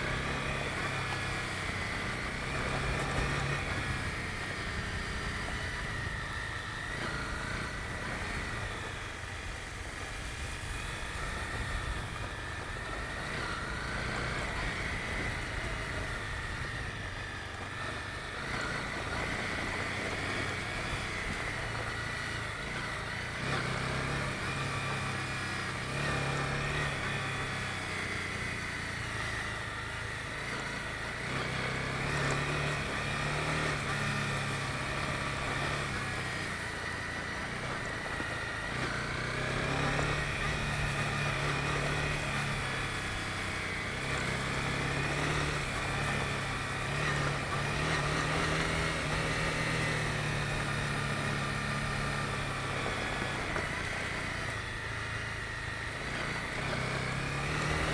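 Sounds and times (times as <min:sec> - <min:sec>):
motorcycle engine running: 0:00.0 - 0:57.9
road and wind noise: 0:00.0 - 0:57.9.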